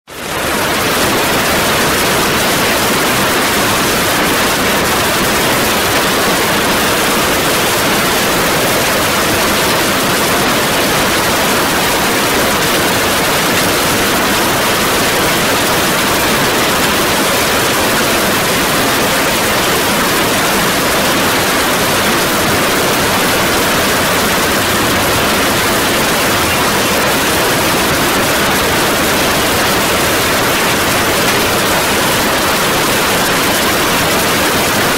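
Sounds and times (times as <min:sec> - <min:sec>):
heavy hail and rain: 0:00.1 - 0:34.9.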